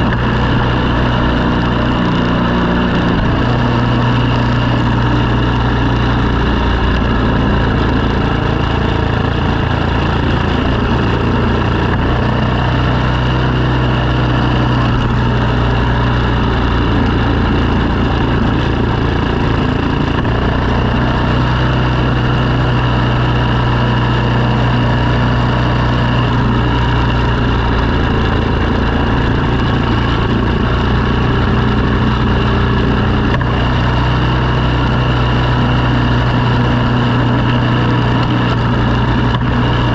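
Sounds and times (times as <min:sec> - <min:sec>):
engine humming under load: 0:00.0 - 0:39.9.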